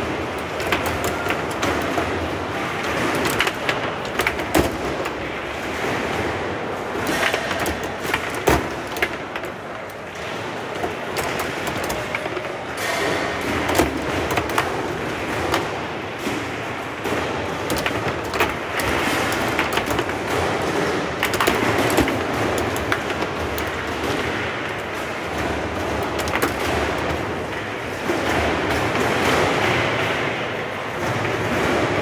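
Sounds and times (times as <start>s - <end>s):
foosball clacks and knocks: 0.0s - 32.0s
hall background noise: 0.0s - 32.0s.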